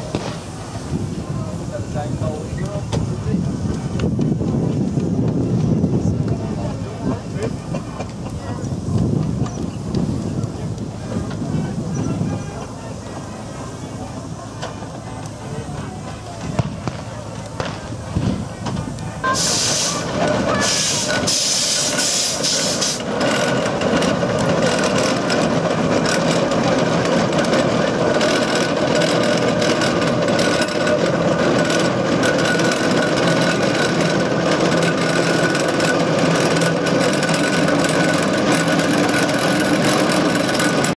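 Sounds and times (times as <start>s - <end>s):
steam hissing: 0.0s - 5.4s, 6.1s - 40.9s
steam roller running: 0.0s - 40.9s.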